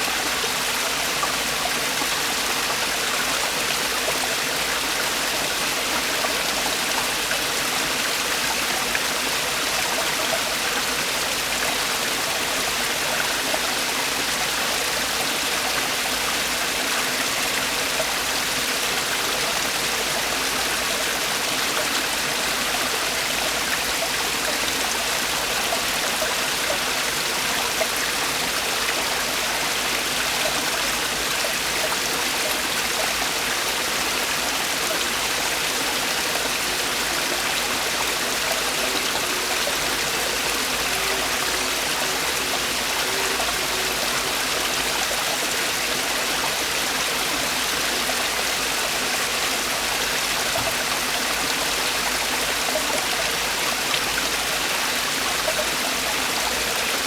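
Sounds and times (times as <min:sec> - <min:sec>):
stream splashing over rocks: 0:00.0 - 0:57.0.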